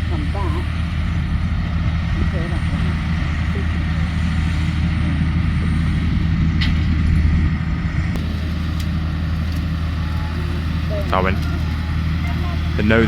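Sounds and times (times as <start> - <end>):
tractor diesel engines droning: 0.0 - 13.0.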